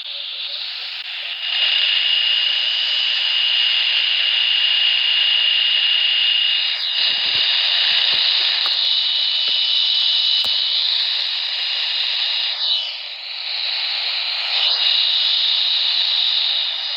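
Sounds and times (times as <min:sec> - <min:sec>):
radio static hiss: 0:00.0 - 0:04.4, 0:06.4 - 0:16.9
thin high whine: 0:00.0 - 0:16.9.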